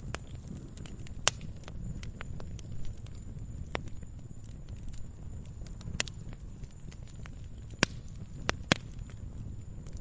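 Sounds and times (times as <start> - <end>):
burning logs rumbling: 0.0 - 10.0
fire pops: 0.0 - 10.0
wood fire crackling: 0.0 - 10.0.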